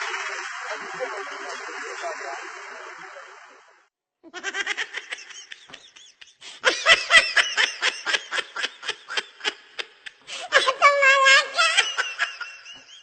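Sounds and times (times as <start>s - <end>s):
people laughing: 0.0s - 3.6s, 4.3s - 13.0s.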